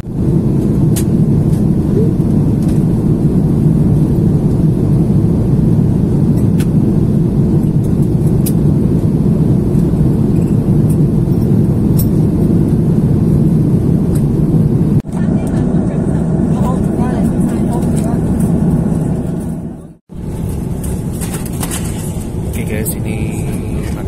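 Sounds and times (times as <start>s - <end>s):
jet engine cabin rumble: 0.0s - 24.0s.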